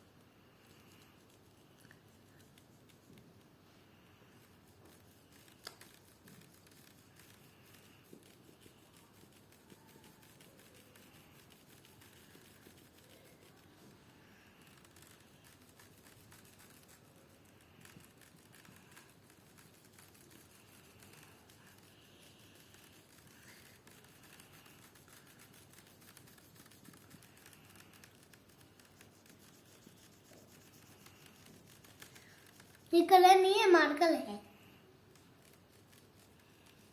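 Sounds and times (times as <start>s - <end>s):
marker scratching on paper: 0.6s - 36.9s.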